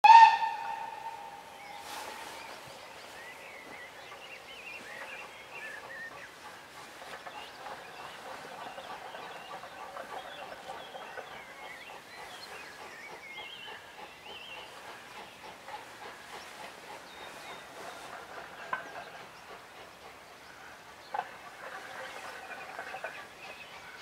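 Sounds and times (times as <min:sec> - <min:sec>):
faint background noise: 0:00.0 - 0:24.0
small birds chirping: 0:01.6 - 0:24.0.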